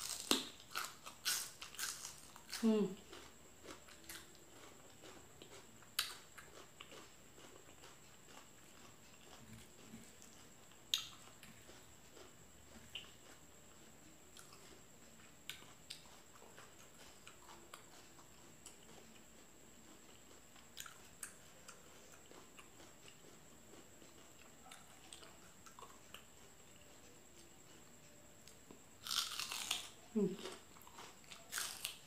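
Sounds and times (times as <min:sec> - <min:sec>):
chewing crisp vegetable: 0:00.0 - 0:32.0.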